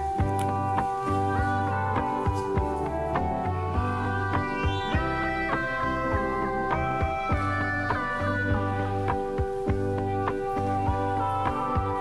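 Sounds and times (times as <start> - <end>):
plucked melody: 0.0 - 12.0
sustained low bass: 0.0 - 12.0.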